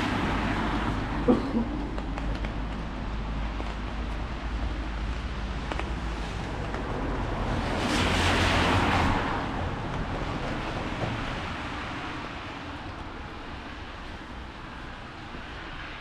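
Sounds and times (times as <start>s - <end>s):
car tyres hissing on wet street: 0.0s - 2.4s, 3.2s - 16.0s
steady rain: 0.0s - 16.0s.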